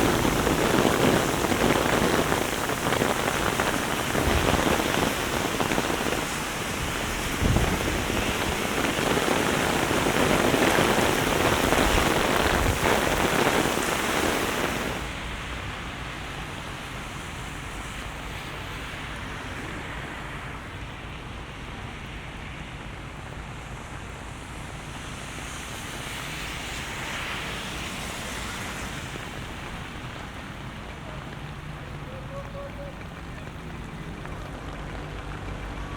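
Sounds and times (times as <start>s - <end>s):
heavy rain: 0.0s - 35.9s
strong wind buffeting microphone: 0.0s - 35.9s.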